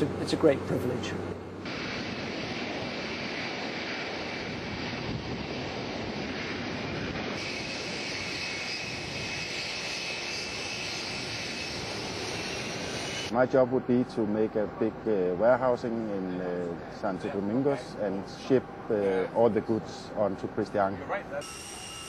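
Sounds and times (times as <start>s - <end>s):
faint steady whine: 0.0s - 22.0s
plane engines running: 0.0s - 22.0s.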